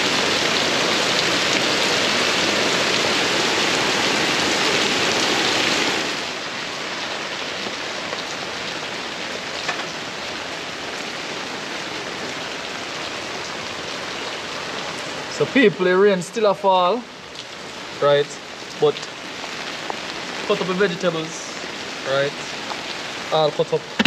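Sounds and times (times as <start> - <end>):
steady rain on wet ground: 0.0 - 24.0.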